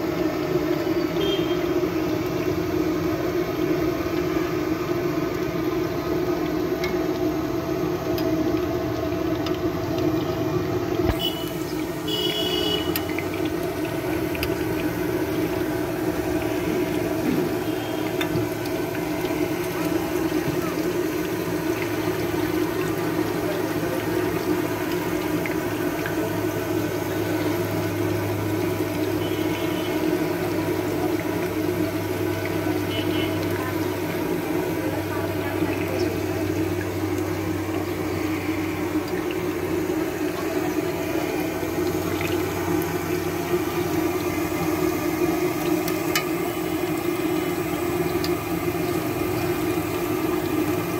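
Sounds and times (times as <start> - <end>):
oil sizzling and bubbling: 0.0 - 50.9.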